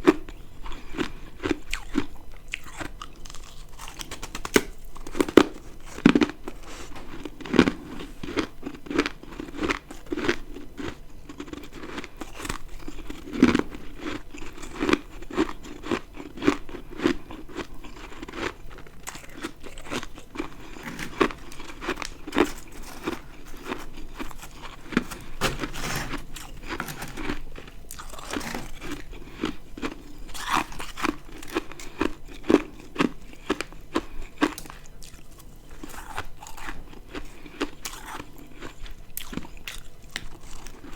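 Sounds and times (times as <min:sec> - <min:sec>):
person chewing ice: 0:00.0 - 0:40.9.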